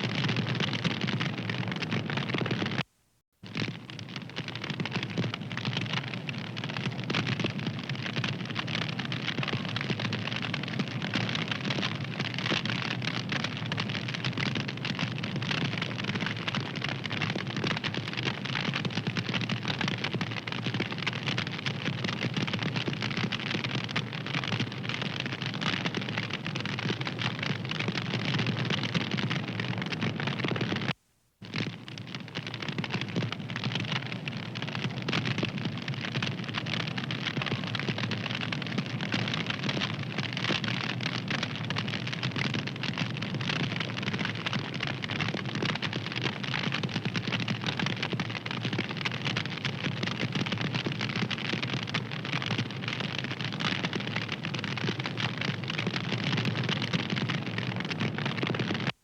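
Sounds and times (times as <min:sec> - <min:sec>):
wood fire crackling: 0:03.4 - 0:59.0.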